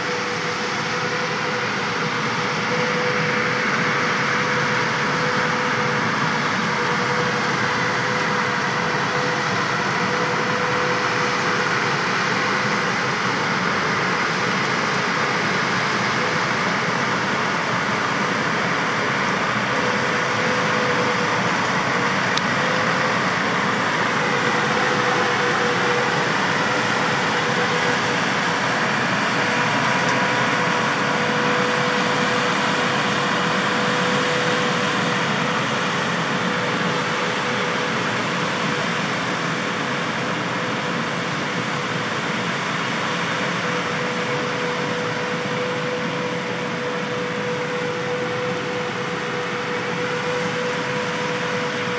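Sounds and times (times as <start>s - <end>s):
constant machinery whine: 0.0s - 51.9s
tractor and threshing machinery drone: 0.0s - 51.9s.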